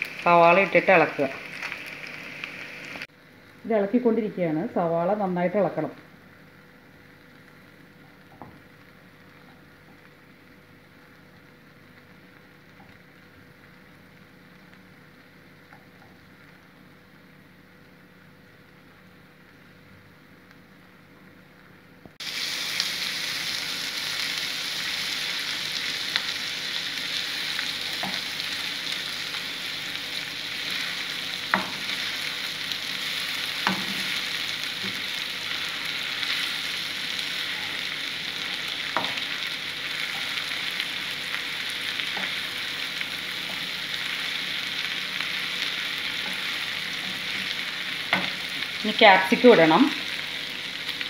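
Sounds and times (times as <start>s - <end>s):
onions sizzling in a pan: 0.0s - 51.0s.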